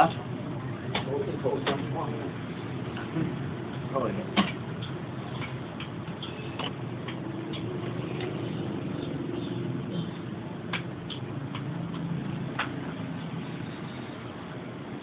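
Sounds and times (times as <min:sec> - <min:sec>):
steady low background hum: 0:00.0 - 0:15.0.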